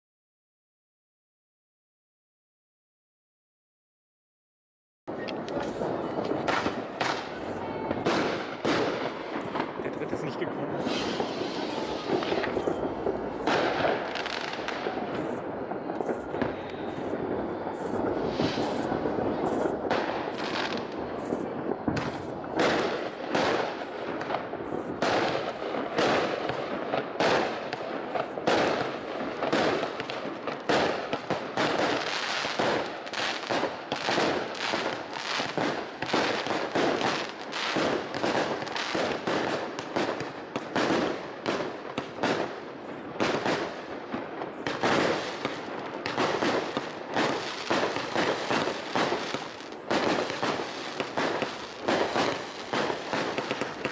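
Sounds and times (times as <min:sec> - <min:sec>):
fireworks bangs and crackling: 0:05.1 - 0:53.9.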